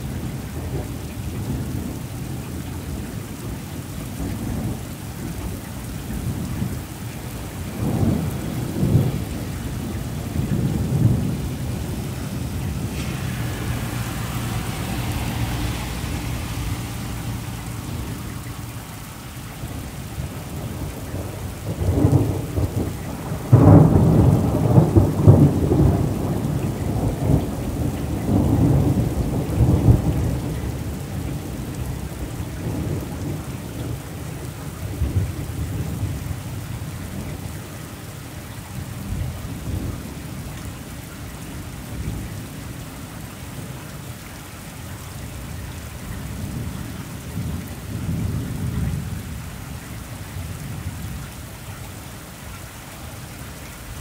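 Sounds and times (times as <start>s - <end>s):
rolling thunder: 0.0s - 37.9s, 45.3s - 51.4s
heavy rain on grass and road: 0.0s - 54.0s.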